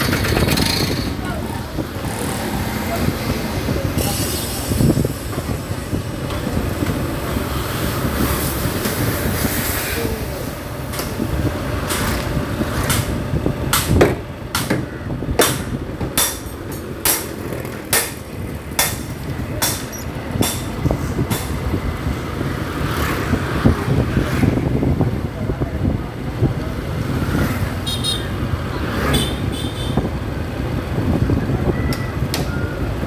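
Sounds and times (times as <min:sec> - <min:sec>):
low street traffic rumble: 0:00.0 - 0:33.0.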